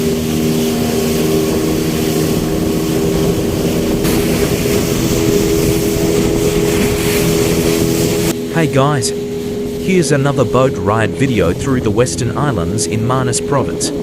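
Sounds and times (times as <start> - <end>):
motorboat engine running: 0.0 - 14.0
rush of wind and water: 0.0 - 14.0.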